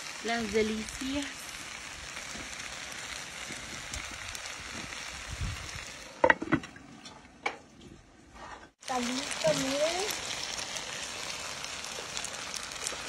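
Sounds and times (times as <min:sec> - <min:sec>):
food sizzling in a frying pan: 0:00.0 - 0:06.3, 0:08.7 - 0:13.0.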